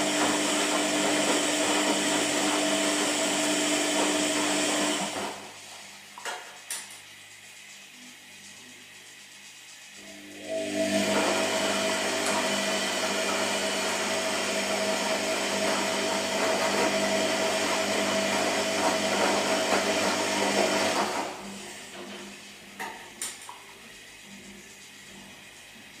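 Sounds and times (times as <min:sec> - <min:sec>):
washing machine motor whine: 0:00.0 - 0:26.0.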